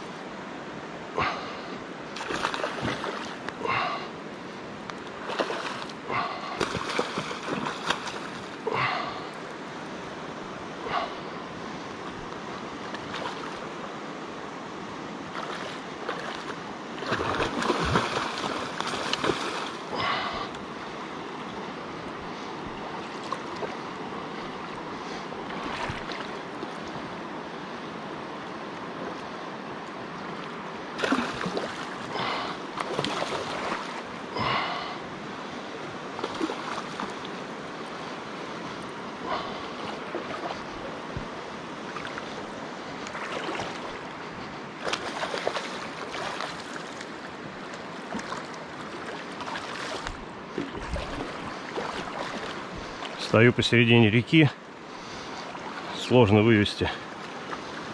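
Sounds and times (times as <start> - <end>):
river flowing over rocks: 0.0 - 53.7, 54.6 - 57.9.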